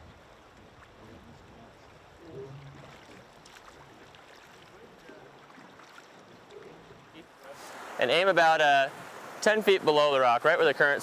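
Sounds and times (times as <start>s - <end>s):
river current rushing: 1.7s - 11.0s.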